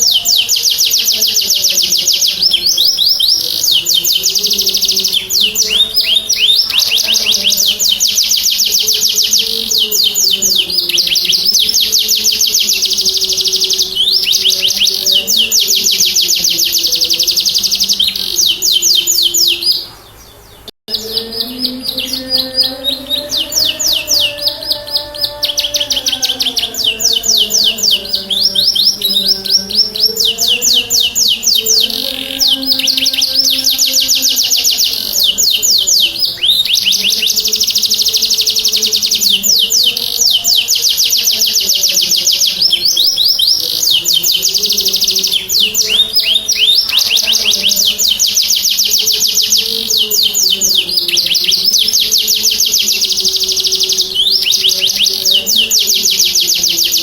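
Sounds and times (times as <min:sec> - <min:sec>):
canary singing rapid trills: 0:00.0 - 0:57.0.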